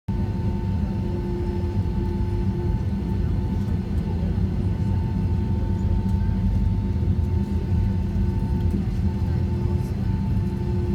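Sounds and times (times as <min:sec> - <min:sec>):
jet engine rumble: 0:00.1 - 0:10.9.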